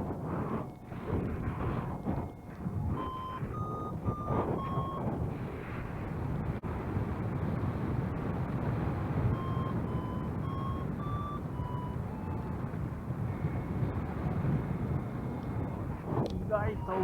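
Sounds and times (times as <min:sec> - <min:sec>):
wind rushing over microphone: 0:00.0 - 0:17.0
variometer short beeps: 0:00.6 - 0:06.3, 0:09.0 - 0:17.0.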